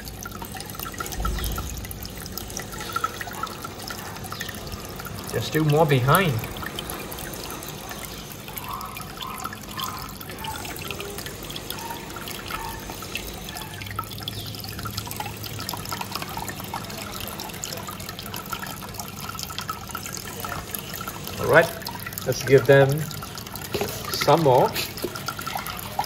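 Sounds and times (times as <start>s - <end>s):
small water drips: 0.0s - 26.0s
water trickling and splashing: 0.0s - 26.0s.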